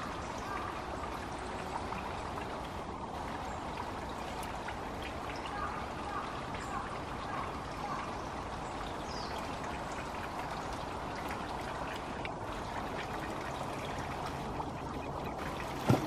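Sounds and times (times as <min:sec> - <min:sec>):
water running and trickling: 0:00.0 - 0:16.0.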